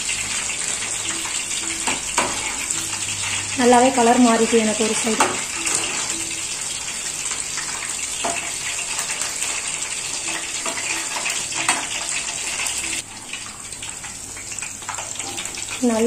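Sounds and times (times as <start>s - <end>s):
chicken deep-frying in oil: 0.0s - 16.0s.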